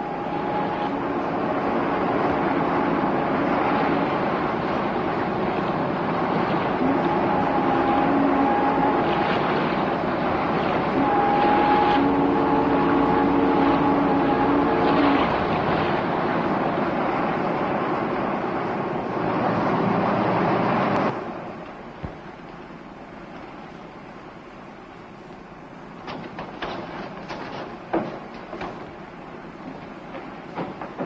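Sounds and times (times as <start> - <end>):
boat engine rushing: 0.0 - 31.0
water rushing: 0.0 - 31.0
wind: 0.0 - 31.0.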